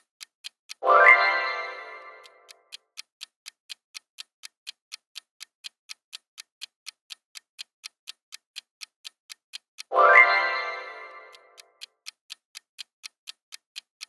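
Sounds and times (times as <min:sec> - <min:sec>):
clock ticking: 0:00.0 - 0:14.0.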